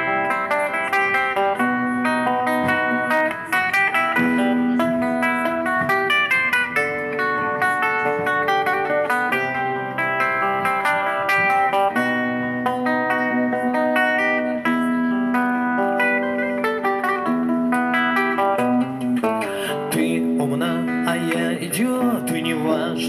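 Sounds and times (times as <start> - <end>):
electric guitar playing melody: 0.0 - 23.0.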